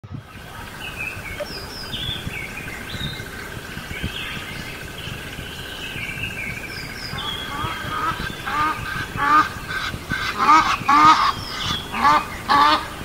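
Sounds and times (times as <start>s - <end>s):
birds chirping: 0.0s - 13.0s
low rumble: 0.1s - 13.0s.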